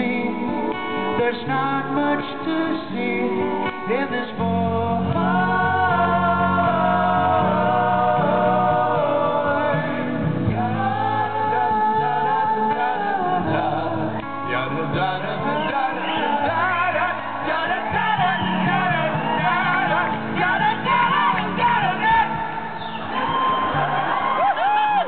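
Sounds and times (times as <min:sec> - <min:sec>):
male voices singing in harmony: 0:00.0 - 0:22.6
acoustic guitar: 0:00.0 - 0:25.0.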